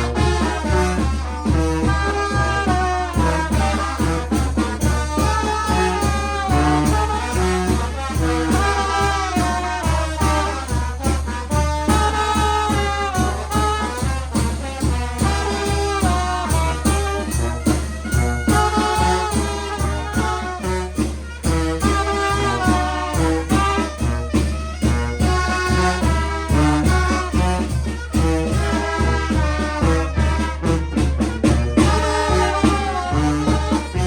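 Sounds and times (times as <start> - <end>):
brass band music: 0.0 - 34.0.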